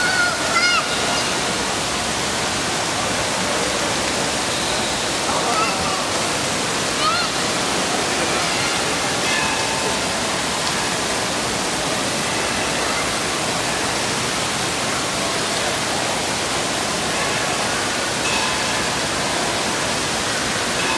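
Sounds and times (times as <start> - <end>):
splashing and falling water: 0.0 - 20.9.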